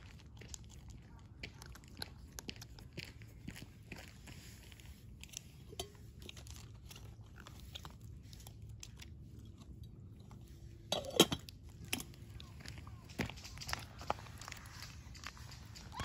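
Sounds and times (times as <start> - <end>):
cat crunching dry kibble: 0.0 - 16.0.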